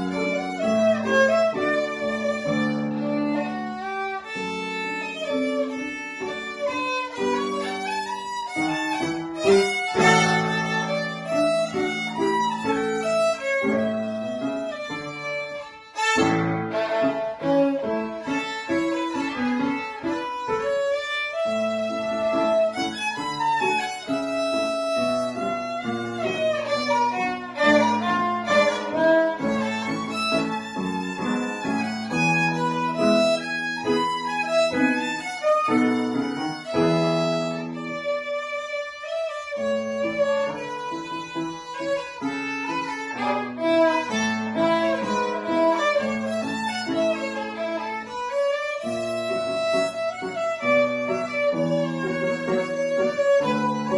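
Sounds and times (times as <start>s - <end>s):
violin melody: 0.0s - 53.9s.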